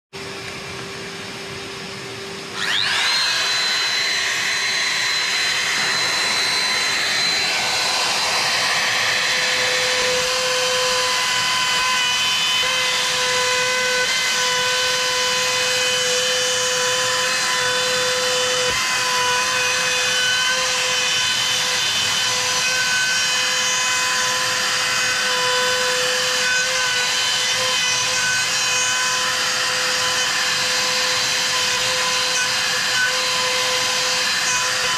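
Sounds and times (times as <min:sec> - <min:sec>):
router spinning up and running: 0:02.3 - 0:34.9.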